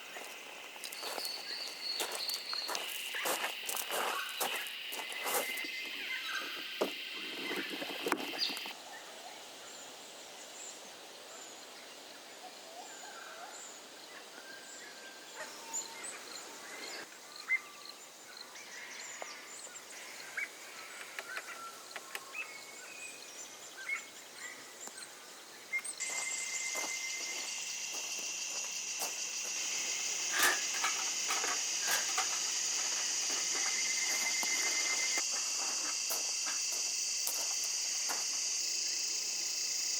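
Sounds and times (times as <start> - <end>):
high-pitched insect chorus: 0.0 - 39.9
bird calls and chirps: 0.1 - 9.8, 12.4 - 36.6.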